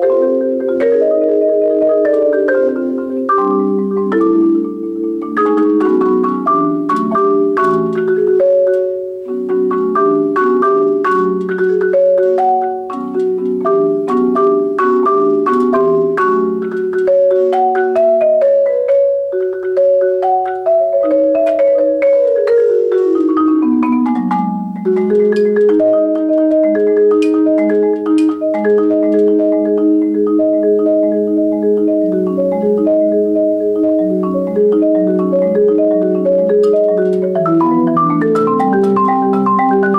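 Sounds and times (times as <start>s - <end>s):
solo marimba: 0.0s - 39.9s.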